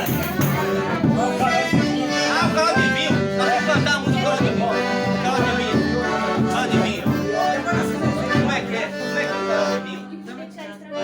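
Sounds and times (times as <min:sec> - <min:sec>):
percussion beat: 0:00.0 - 0:10.1
accordion playing chords: 0:00.0 - 0:11.0
people singing: 0:00.0 - 0:11.0.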